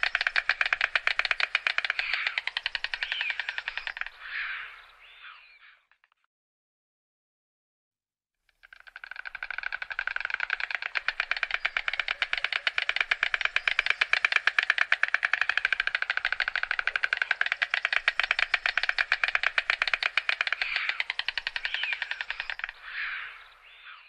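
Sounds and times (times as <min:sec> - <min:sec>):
stork clattering its bill: 0:00.0 - 0:04.8, 0:08.5 - 0:23.6.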